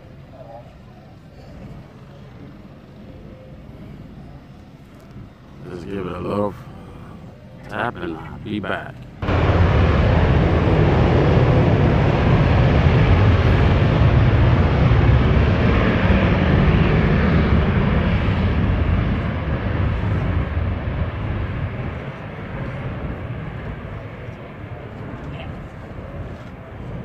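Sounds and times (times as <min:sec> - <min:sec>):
jet engines deep rumble: 0:00.0 - 0:27.0.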